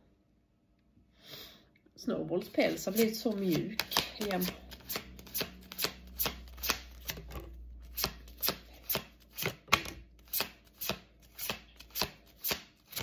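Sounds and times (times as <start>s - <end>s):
cards being shuffled: 2.5s - 13.0s.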